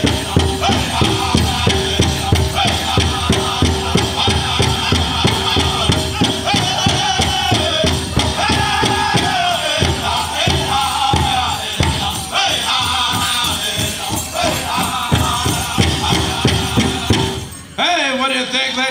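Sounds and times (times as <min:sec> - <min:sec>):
big drum beating: 0:00.0 - 0:17.6
group singing in high voices: 0:00.0 - 0:17.6.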